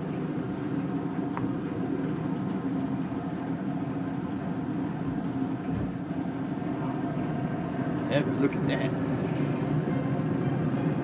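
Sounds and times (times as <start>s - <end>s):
smoker fan humming: 0.0s - 11.0s.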